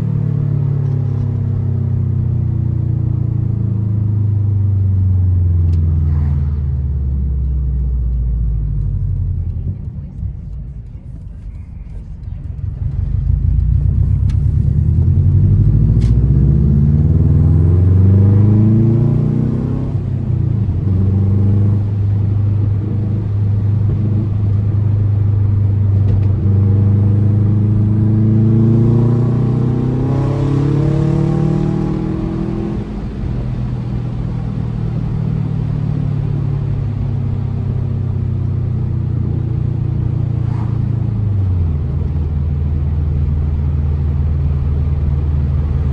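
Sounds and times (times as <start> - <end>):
car engine rumbling: 0.0 - 45.9.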